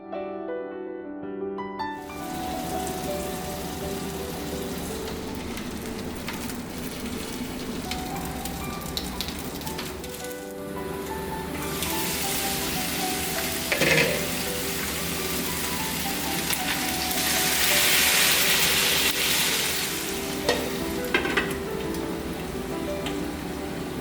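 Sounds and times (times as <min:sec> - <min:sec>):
meat sizzling on a grill pan: 0:02.0 - 0:24.0.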